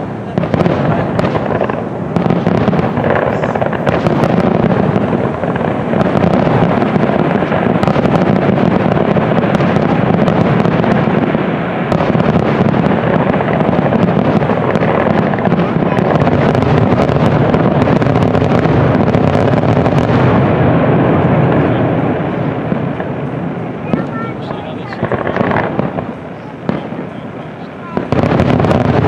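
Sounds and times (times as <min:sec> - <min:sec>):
fireworks booming: 0:00.0 - 0:29.0
sharp firework cracks: 0:00.0 - 0:29.0.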